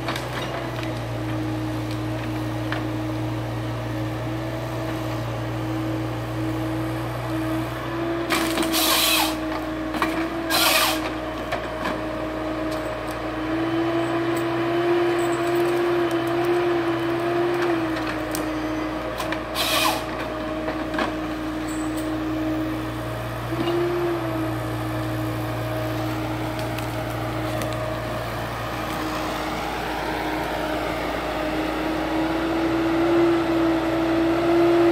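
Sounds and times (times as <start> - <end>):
diesel engine and hydraulics hum: 0.0 - 34.9.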